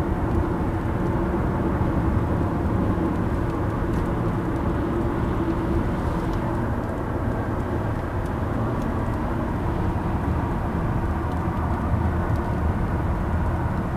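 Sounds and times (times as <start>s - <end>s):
car driving rumble: 0.0s - 13.9s.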